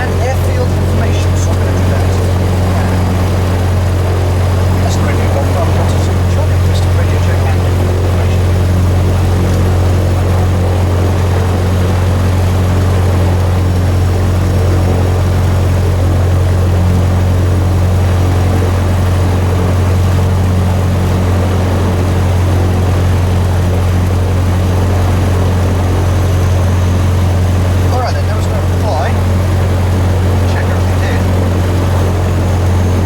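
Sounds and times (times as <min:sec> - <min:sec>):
small plane engine droning: 0:00.0 - 0:33.0.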